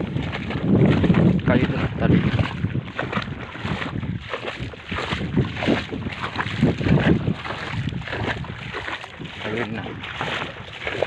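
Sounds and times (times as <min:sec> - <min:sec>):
footsteps sloshing through water: 0:00.0 - 0:11.0
wind buffeting microphone: 0:00.0 - 0:11.0.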